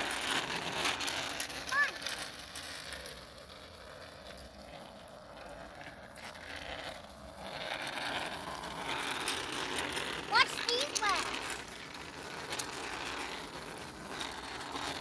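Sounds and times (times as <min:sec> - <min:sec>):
bicycle tyres rolling on asphalt: 0:00.0 - 0:15.0.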